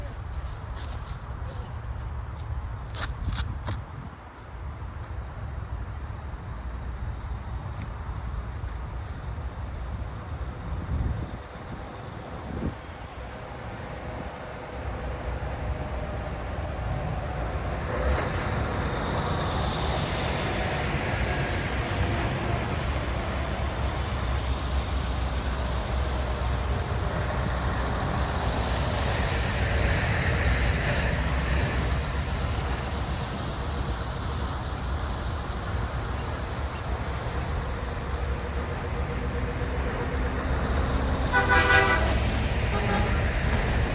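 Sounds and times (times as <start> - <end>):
heavy trucks driving past: 6.9 - 43.9.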